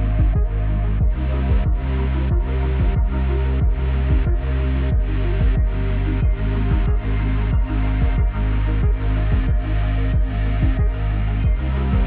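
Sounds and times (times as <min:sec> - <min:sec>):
electronic music: 0:00.0 - 0:12.0
kick drum: 0:00.0 - 0:12.0
sustained bass notes: 0:00.0 - 0:12.0.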